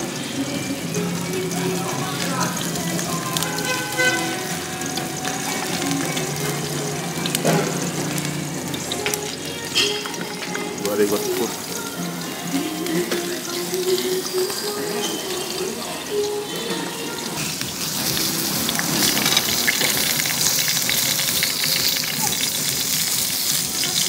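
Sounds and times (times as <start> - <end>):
food frying in hot oil: 0.0 - 24.0.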